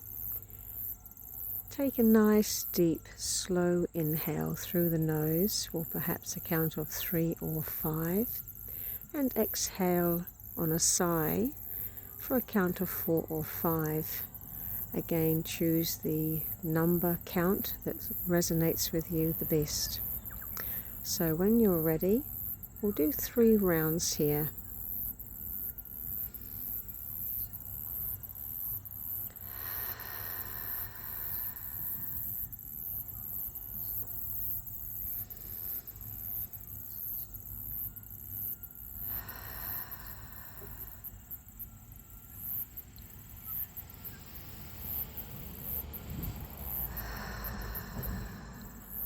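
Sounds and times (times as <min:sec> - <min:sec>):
insects chirping: 0:00.0 - 0:49.0
soft rushing hiss: 0:06.2 - 0:49.0.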